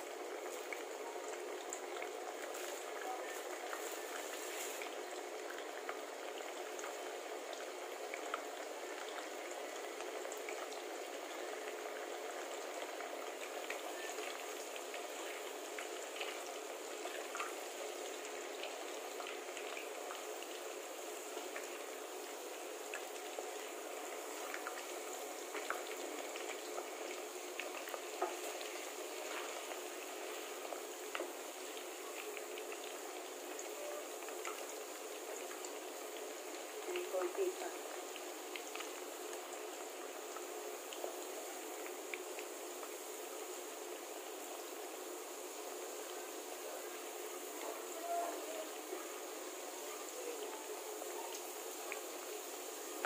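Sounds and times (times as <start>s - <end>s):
potatoes deep-frying in oil: 0.0s - 53.0s.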